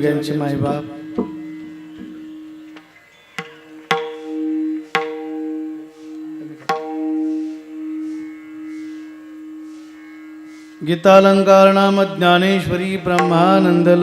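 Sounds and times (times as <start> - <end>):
ringing tuned hand drum strokes: 0.0 - 14.0
sustained drone note: 0.0 - 14.0.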